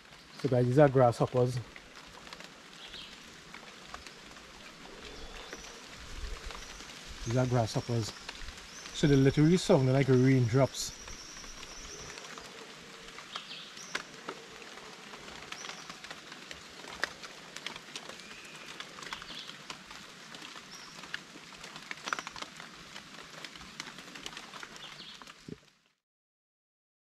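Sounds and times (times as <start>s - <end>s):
grasshoppers ticking and clicking: 0.0s - 25.6s.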